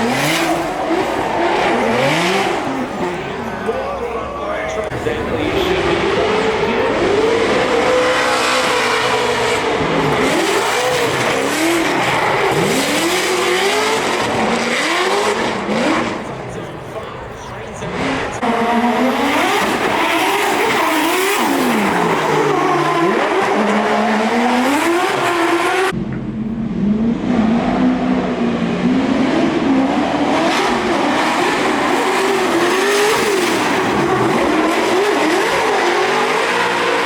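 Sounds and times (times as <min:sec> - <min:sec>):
car engines revving hard: 0:00.0 - 0:37.0.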